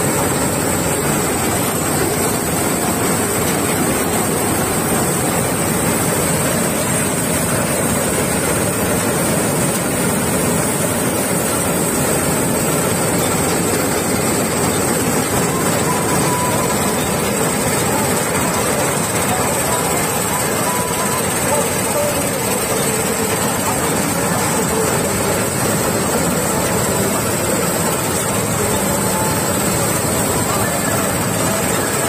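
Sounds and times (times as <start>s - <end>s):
combine harvester running: 0.0s - 32.0s
constant high whine: 0.0s - 32.0s.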